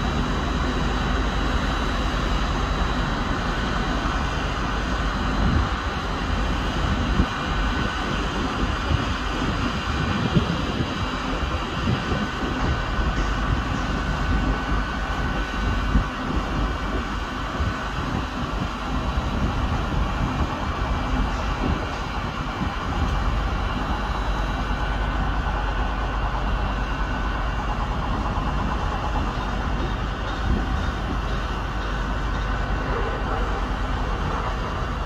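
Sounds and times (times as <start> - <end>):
faint steady whine: 0.0 - 35.0
train engine idling: 0.0 - 35.0.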